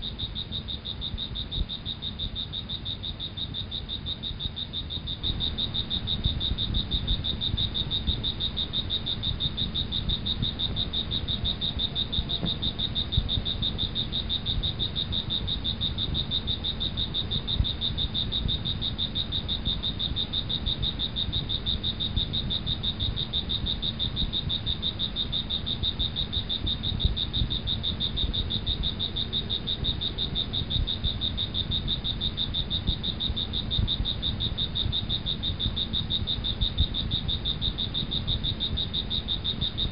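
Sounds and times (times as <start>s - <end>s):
insects and frogs trilling: 0.0s - 39.9s.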